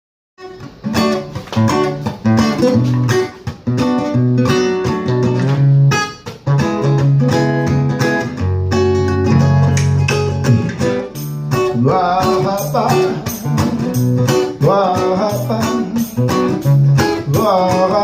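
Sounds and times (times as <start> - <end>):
acoustic guitar strummed: 0.4 - 18.0.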